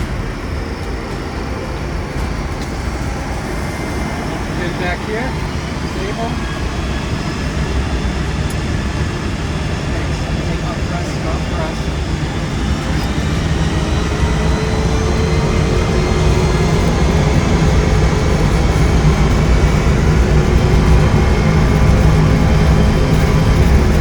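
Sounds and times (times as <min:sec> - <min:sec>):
jet engines spooling up: 0:00.0 - 0:24.0
takeoff roll rumble: 0:00.0 - 0:24.0.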